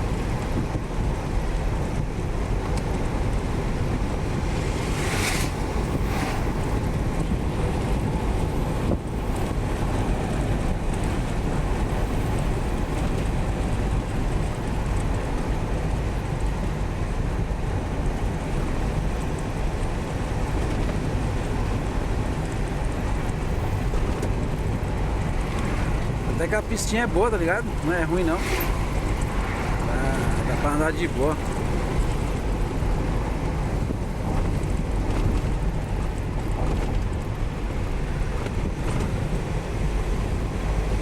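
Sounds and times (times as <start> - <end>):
road and wind noise: 0.0 - 41.0
truck engine drone: 0.0 - 41.0.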